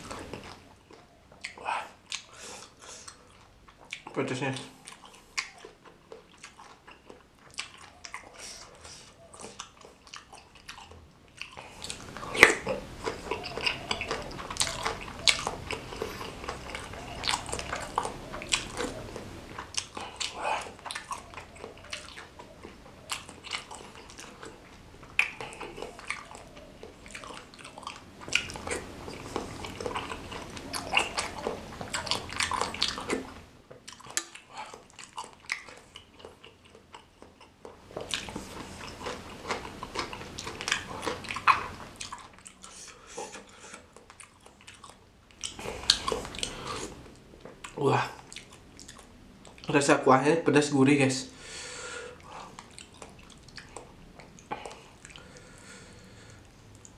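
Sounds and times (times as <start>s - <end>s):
wet mouth clicks and crunches: 0.0s - 49.8s, 52.2s - 55.4s
chewing and biting food: 0.0s - 49.9s, 52.1s - 56.9s.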